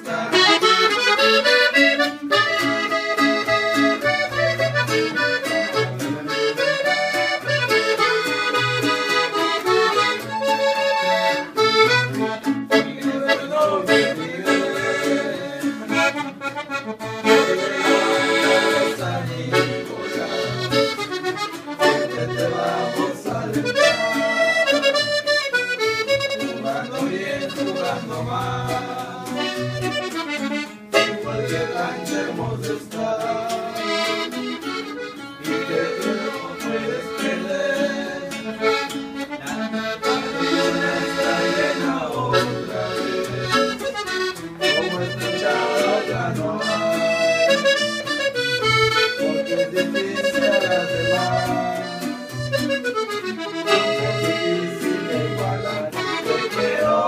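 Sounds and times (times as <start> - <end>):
button accordion playing: 0.0 - 57.0.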